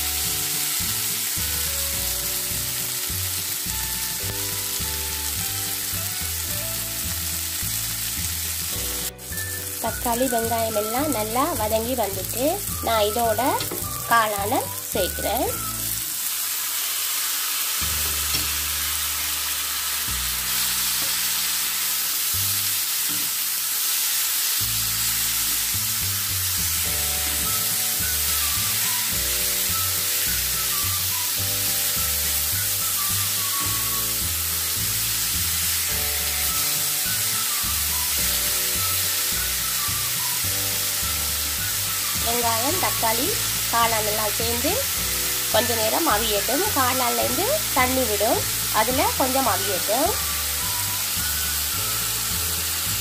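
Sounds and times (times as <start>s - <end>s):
vegetables sizzling in frying pan: 0.0s - 53.0s.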